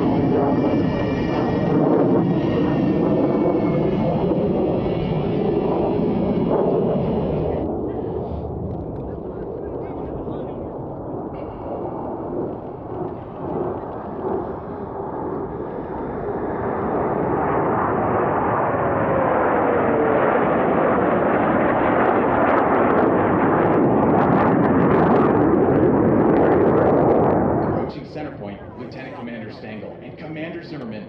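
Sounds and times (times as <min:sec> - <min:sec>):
jet aircraft passing: 0:00.0 - 0:31.0.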